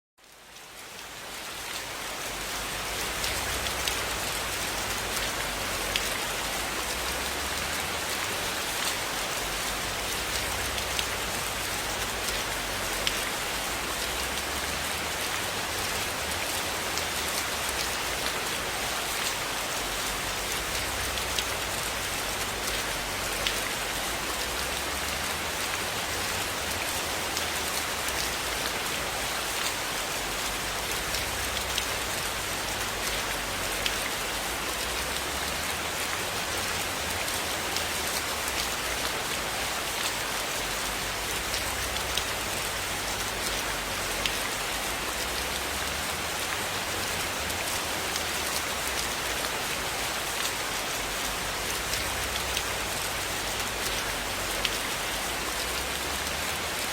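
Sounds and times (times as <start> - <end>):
steady rain hiss: 0.2 - 56.9.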